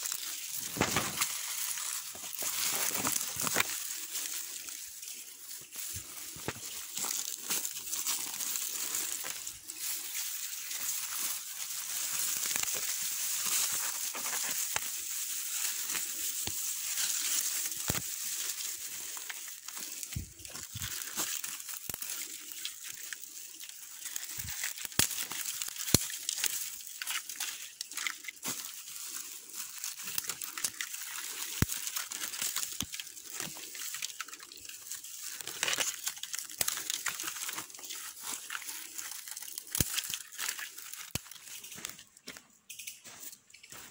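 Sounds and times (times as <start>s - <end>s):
dry grass being pulled: 0.0s - 42.7s
footsteps through dry undergrowth: 0.0s - 43.9s.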